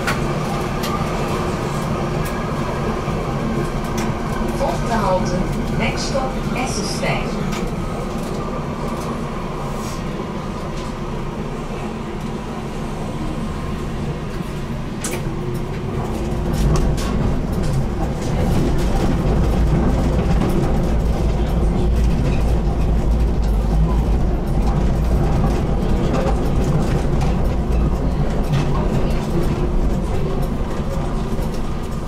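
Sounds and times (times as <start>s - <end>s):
tram rumbling along track: 0.0s - 32.0s.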